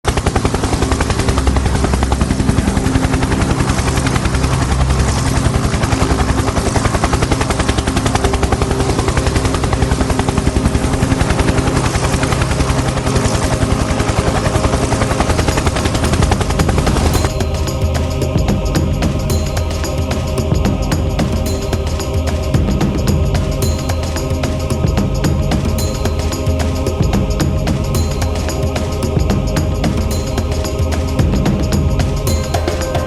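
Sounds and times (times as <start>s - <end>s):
helicopter rotor chopping: 0.0s - 33.0s
music: 0.0s - 33.0s
turbine drone: 0.0s - 33.0s.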